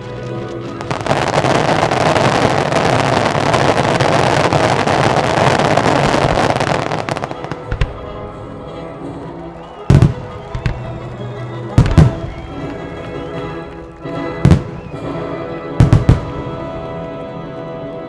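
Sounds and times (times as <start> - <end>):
fireworks crackling: 0.0 - 17.3.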